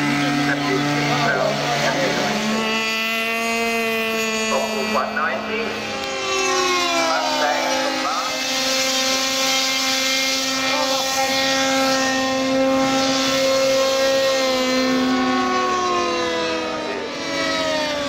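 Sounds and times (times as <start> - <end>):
model plane engines buzzing: 0.0 - 18.0.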